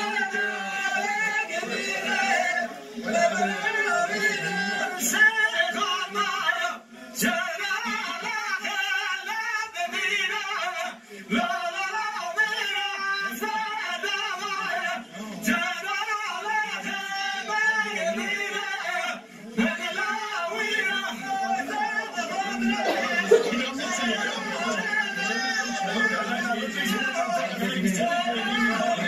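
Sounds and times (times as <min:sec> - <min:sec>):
men singing together: 0:00.0 - 0:29.0.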